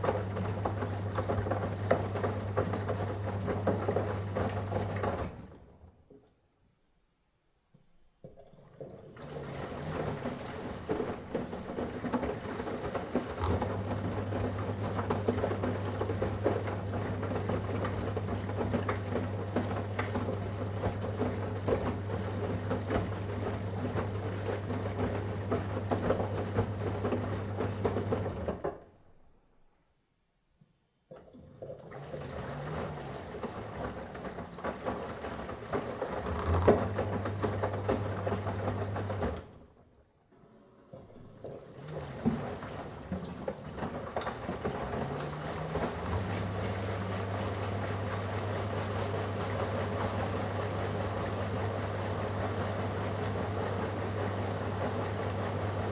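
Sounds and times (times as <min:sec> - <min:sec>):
water and laundry sloshing: 0:00.0 - 0:06.0, 0:08.2 - 0:28.8, 0:31.1 - 0:39.8, 0:40.8 - 0:55.9
washing machine motor humming: 0:00.0 - 0:06.2, 0:07.8 - 0:29.3, 0:30.6 - 0:55.9.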